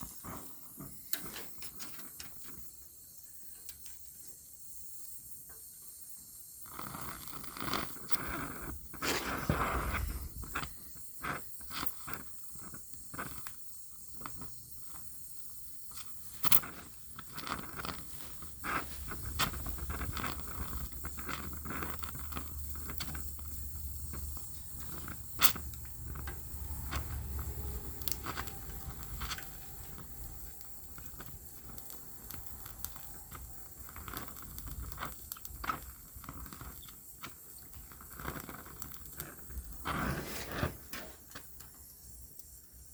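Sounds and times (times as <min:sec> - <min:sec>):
welder crackling: 0:00.0 - 0:05.3, 0:06.1 - 0:42.6
metal clicks and scrapes: 0:06.7 - 0:41.6.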